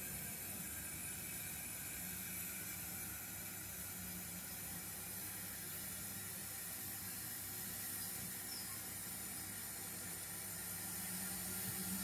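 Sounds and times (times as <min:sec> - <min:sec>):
low electric hum: 0:00.0 - 0:12.0
model locomotive hissing: 0:00.0 - 0:12.0.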